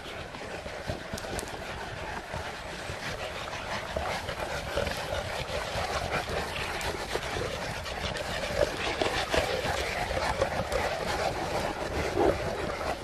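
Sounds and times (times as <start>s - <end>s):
dog sounds: 0.0s - 13.0s
outdoor background noise: 0.0s - 13.0s.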